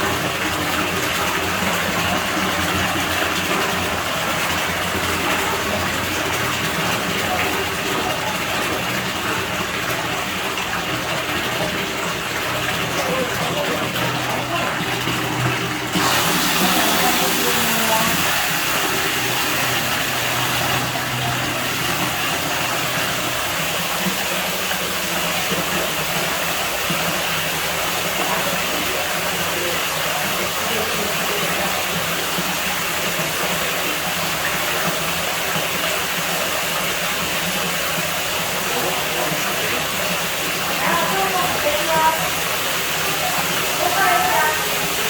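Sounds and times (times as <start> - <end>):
water running into pool: 0.0 - 45.0.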